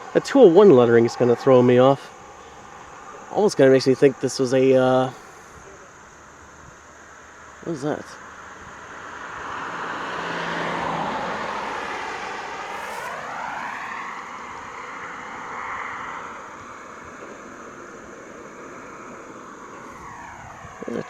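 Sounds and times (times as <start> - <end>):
aircraft passing overhead: 0.0 - 6.1, 8.8 - 21.0.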